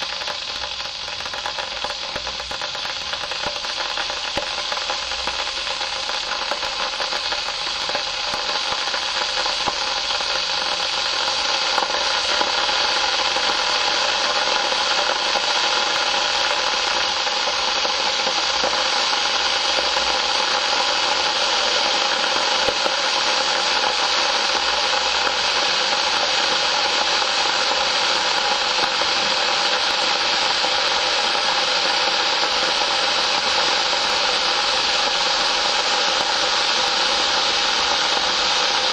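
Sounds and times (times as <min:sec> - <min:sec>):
kettle heating water: 0:00.0 - 0:38.9.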